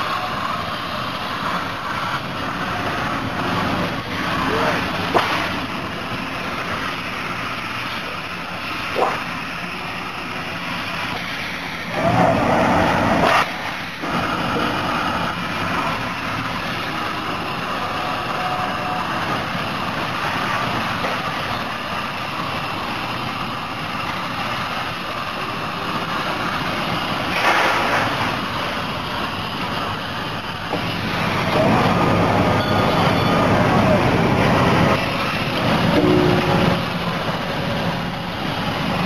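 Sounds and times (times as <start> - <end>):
steady machine noise: 0.0 - 39.0.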